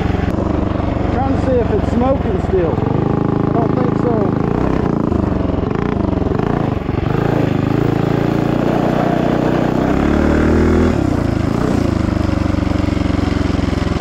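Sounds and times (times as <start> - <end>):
minibike engine revving: 0.0 - 14.0.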